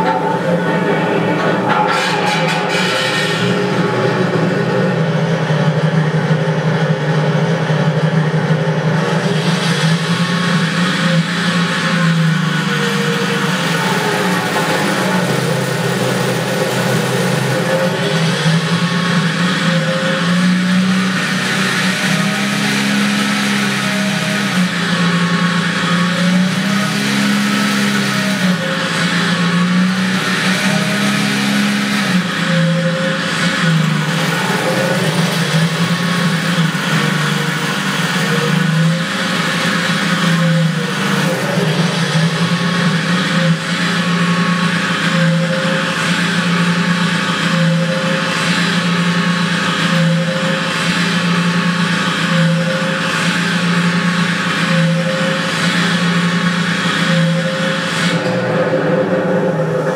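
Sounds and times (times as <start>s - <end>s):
model tank motor humming: 0.0s - 59.9s.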